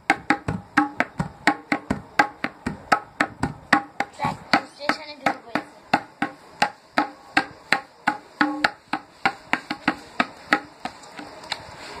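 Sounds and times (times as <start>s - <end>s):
tabla drumming: 0.0s - 10.9s.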